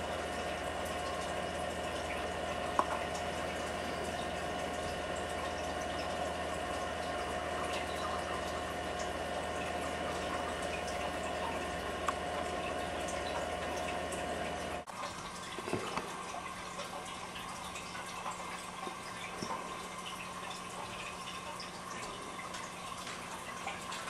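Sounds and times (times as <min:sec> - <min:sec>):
faint drips: 0:00.0 - 0:24.0
low steady hum: 0:00.0 - 0:24.0
water trickling: 0:00.0 - 0:24.0.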